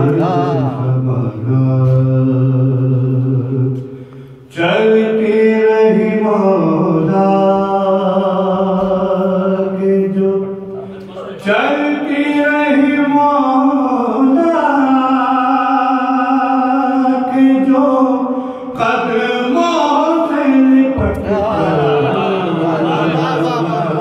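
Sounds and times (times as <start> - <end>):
man chanting: 0.0 - 3.7, 4.5 - 24.0.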